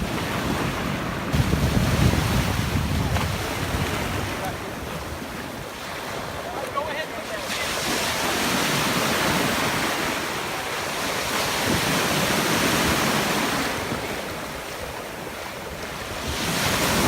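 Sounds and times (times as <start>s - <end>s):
wind buffeting microphone: 0.0s - 6.6s, 7.6s - 17.0s
ocean surf breaking: 0.0s - 17.0s.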